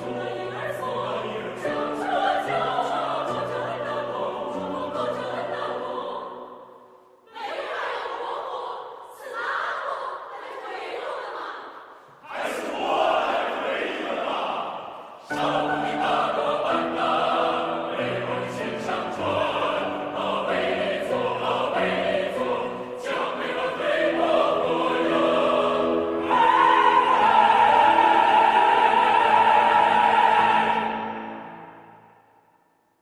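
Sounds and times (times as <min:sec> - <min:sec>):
choir singing in parts: 0:00.0 - 0:32.4.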